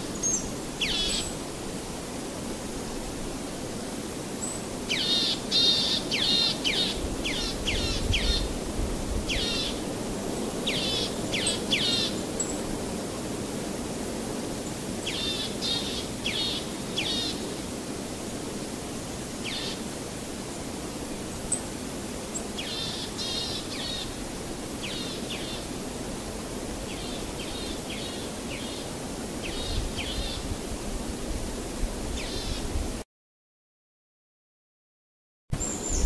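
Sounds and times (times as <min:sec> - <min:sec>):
steady background hiss: 0:00.0 - 0:33.0, 0:35.6 - 0:36.0.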